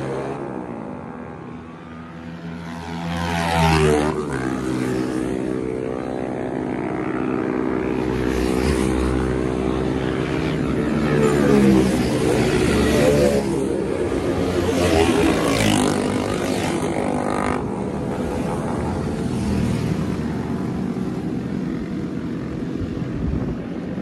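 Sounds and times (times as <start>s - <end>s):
motorcycles passing by: 0.0s - 24.0s.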